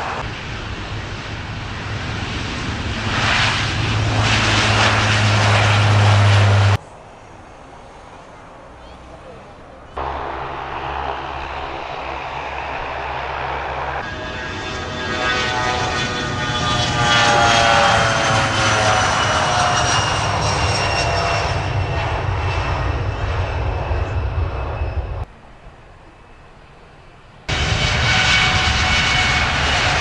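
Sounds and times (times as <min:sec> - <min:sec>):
aircraft engine whine passing by: 0:00.0 - 0:30.0
airliner engines running: 0:00.0 - 0:30.0.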